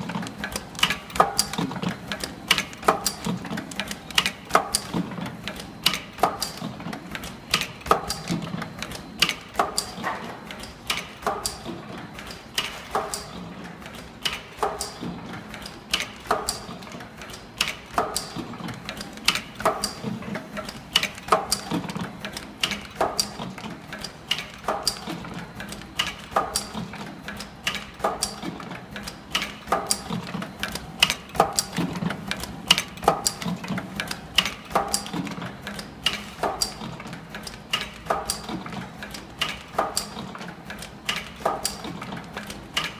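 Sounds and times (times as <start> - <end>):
machine clicks and clacks: 0.0 - 42.9.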